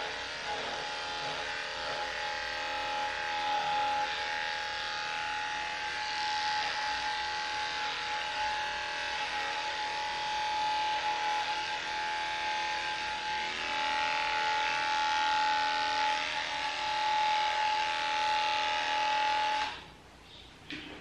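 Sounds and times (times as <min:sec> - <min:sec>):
electric clippers humming: 0:00.0 - 0:19.9.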